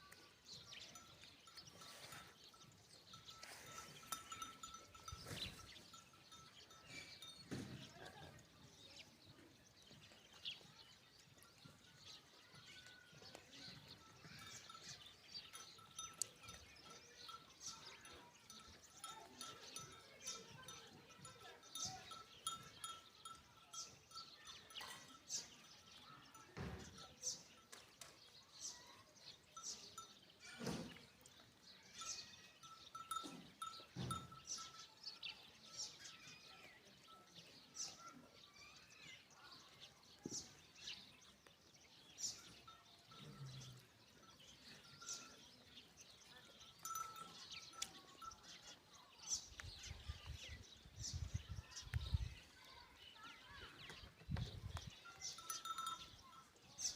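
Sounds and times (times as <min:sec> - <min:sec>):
livestock bells tinkling: 0:00.0 - 0:56.9.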